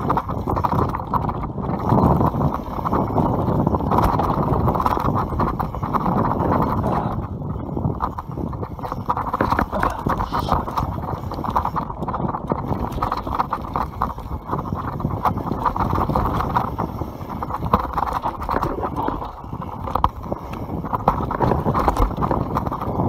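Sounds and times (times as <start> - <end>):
bike knocking and rattling: 0.0 - 23.0
tyre and wind rush: 0.0 - 23.0.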